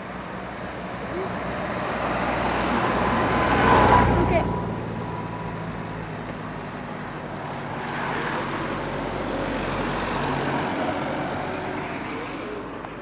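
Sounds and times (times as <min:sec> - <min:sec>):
car driving past: 0:01.4 - 0:12.6.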